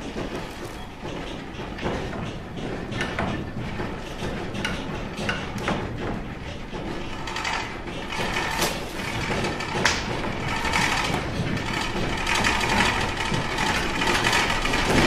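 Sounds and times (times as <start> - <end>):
building creaking and rattling: 0.0 - 15.0
rustling clatter: 0.0 - 15.0.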